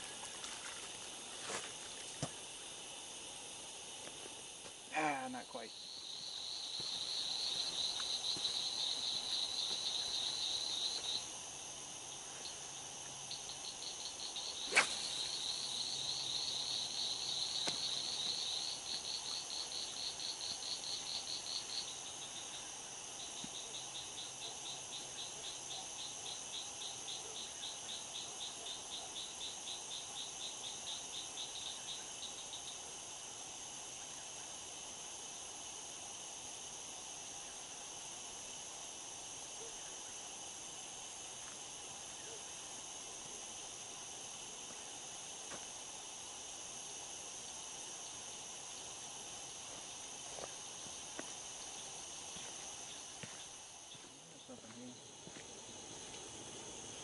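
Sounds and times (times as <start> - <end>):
high-pitched insect drone: 0.0 - 57.0
insects chirping: 0.0 - 57.0.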